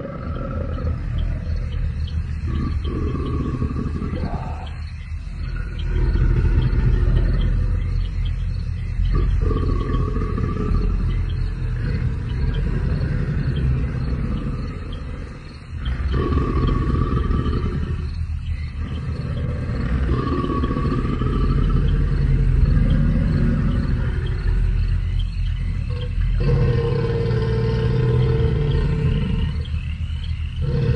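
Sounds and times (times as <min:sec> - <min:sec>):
deep dinosaur growls and roars: 0:00.0 - 0:30.9.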